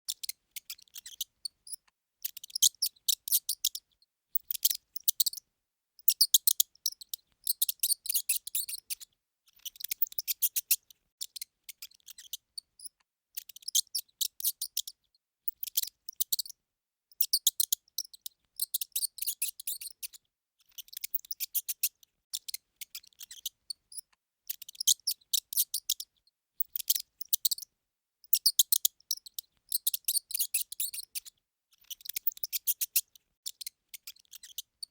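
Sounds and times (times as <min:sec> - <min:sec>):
mouse squeaking: 0:00.1 - 0:05.4, 0:06.0 - 0:34.9.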